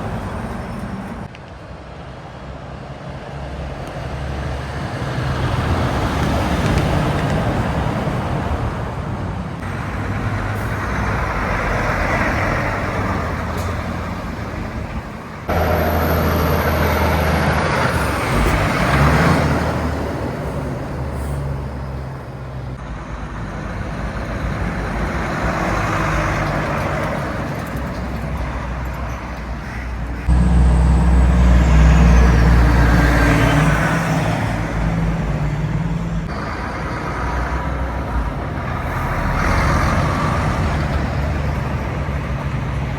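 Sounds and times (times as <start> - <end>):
diesel truck engine drone: 0.0 - 42.9
traffic passing on highway: 0.0 - 42.9.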